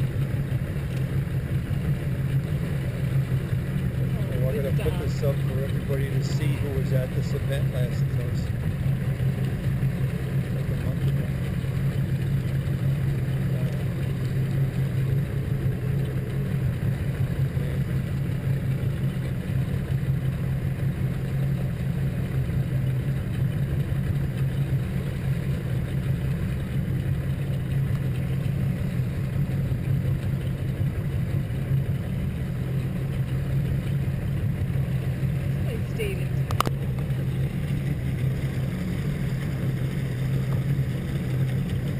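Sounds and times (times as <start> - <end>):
motorboat engine droning: 0.0 - 41.9.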